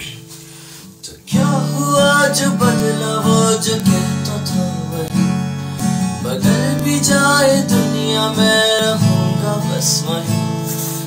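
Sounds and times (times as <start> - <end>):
acoustic guitar chord strumming: 0.0 - 11.0.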